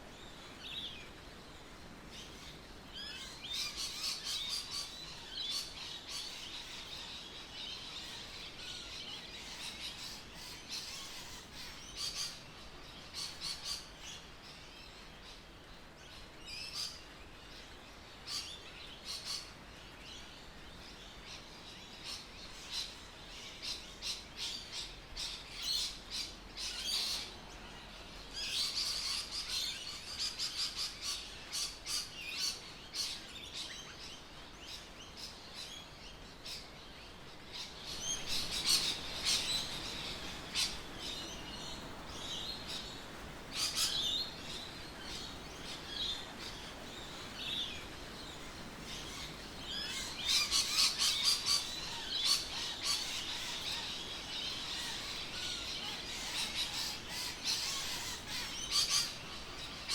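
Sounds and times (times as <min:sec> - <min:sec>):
birds chirping and calling: 0:02.1 - 0:14.4, 0:16.2 - 0:59.9.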